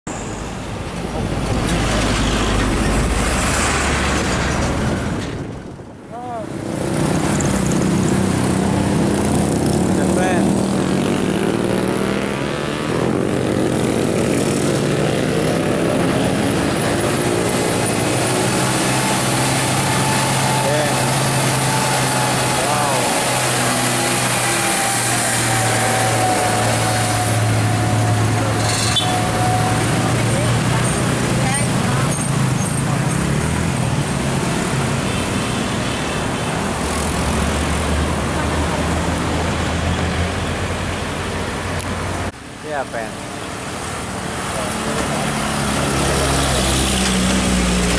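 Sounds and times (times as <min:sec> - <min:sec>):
road traffic noise: 0:00.0 - 0:47.9
diesel truck engine drone: 0:00.1 - 0:47.9.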